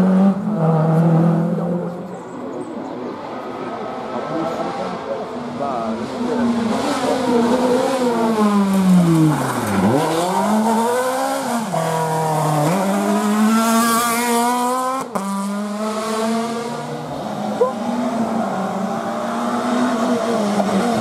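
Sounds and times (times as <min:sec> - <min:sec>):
rally car engine revving: 0:00.0 - 0:02.1, 0:03.8 - 0:21.0.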